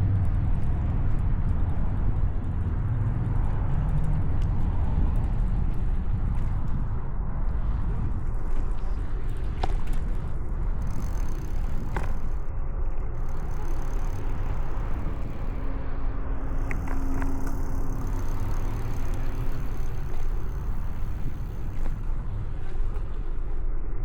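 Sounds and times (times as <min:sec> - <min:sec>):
bicycle tyres on road: 0:00.0 - 0:24.0
faint steady hum: 0:00.0 - 0:24.0
wind on microphone: 0:00.0 - 0:24.0.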